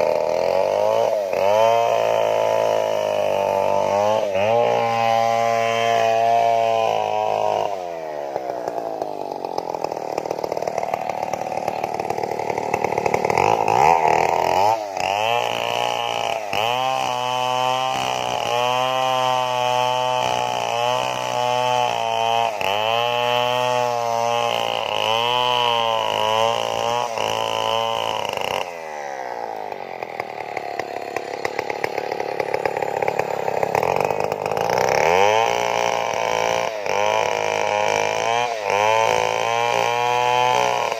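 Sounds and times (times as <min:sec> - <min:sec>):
chainsaw running hard: 0:00.0 - 0:40.9.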